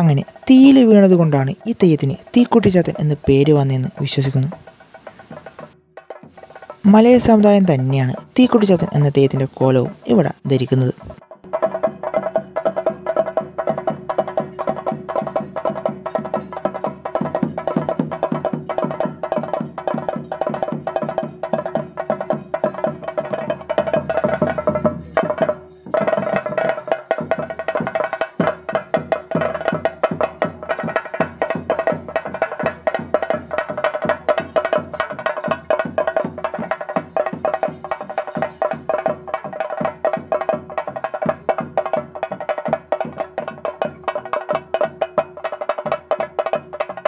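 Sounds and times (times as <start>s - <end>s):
fast temple drumming: 0.0s - 47.0s.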